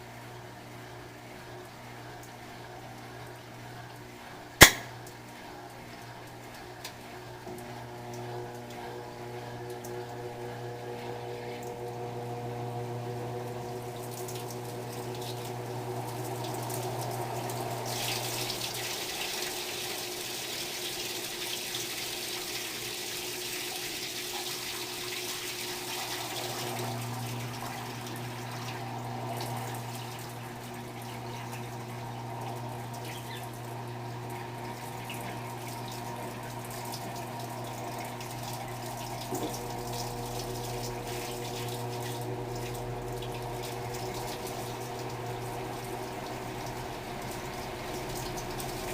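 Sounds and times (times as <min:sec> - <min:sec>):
washing machine hum: 0:00.0 - 0:48.9.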